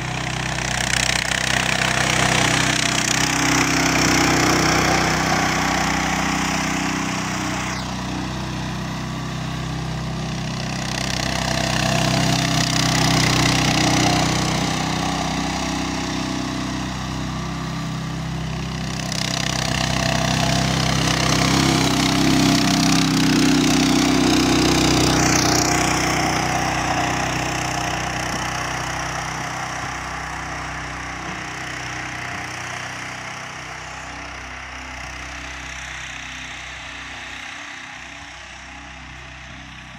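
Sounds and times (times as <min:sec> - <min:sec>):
mini tractor engine running: 0:00.0 - 0:39.9.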